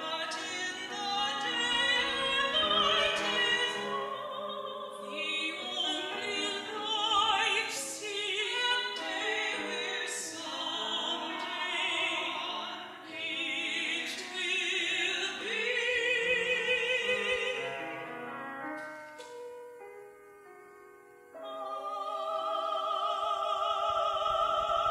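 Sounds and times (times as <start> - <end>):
soprano singing: 0.0 - 19.2, 21.4 - 24.9
piano: 0.0 - 24.9.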